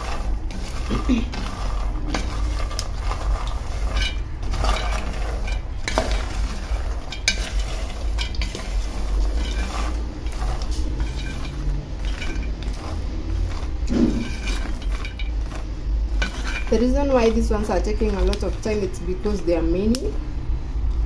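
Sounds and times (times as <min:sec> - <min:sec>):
peanuts rattling in a pan: 0:00.0 - 0:21.0.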